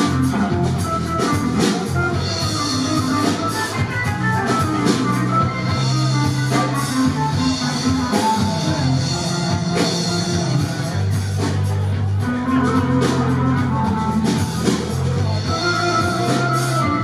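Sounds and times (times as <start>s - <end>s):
drum strikes: 0.0s - 17.0s
electric guitar: 0.0s - 17.0s
low bass notes: 0.0s - 17.0s.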